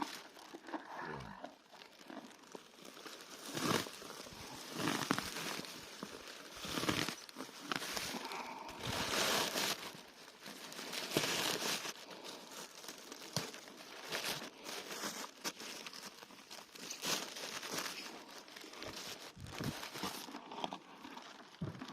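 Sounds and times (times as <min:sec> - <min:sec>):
grass being torn and crunched: 0:00.0 - 0:20.8.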